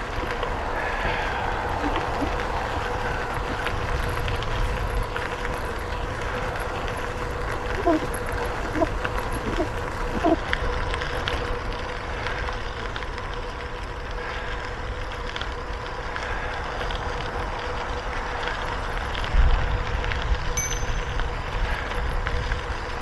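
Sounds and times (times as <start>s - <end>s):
wind rushing over microphone: 0.0s - 12.4s, 16.4s - 23.0s
bicycle tyre and road noise: 0.0s - 23.0s
faint hum: 0.0s - 23.0s.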